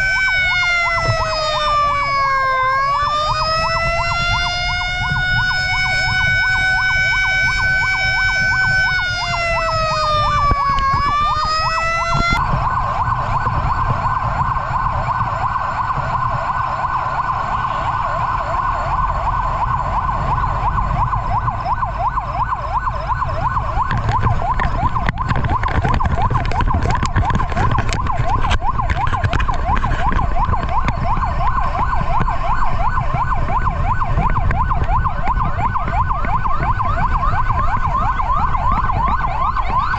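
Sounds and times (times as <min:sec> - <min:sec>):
electronic yelp siren: 0:00.0 - 0:39.9
held siren tone: 0:00.0 - 0:39.9
truck engine and road rumble: 0:00.0 - 0:39.9.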